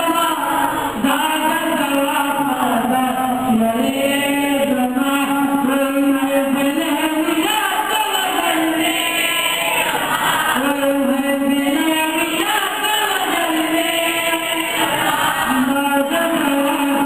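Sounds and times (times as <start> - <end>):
boy singing into a microphone: 0.0 - 17.0.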